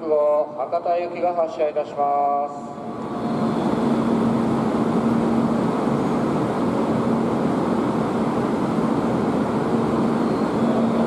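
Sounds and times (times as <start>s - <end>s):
train equipment rushing hum: 0.0s - 11.0s.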